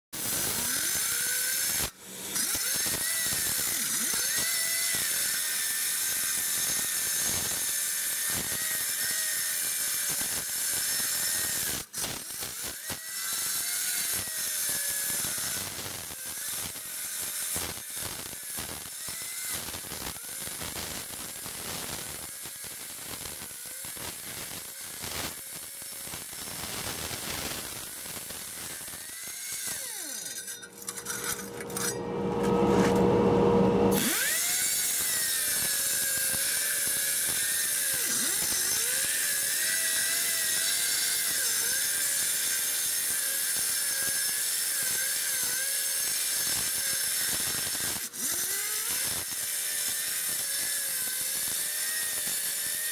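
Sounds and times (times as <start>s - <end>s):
saw cutting concrete: 0.1s - 33.1s, 33.9s - 52.9s.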